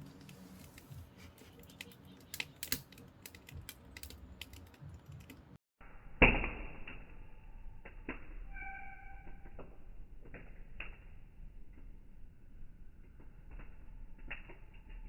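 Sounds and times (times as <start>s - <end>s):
firewood crackling and popping: 0.0s - 5.6s, 6.2s - 15.0s.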